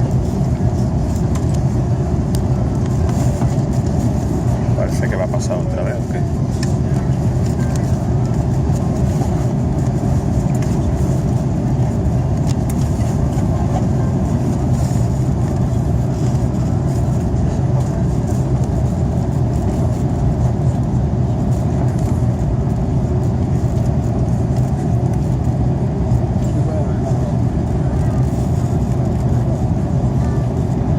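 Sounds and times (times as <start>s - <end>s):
jet engines and airflow rumbling: 0.0s - 30.9s.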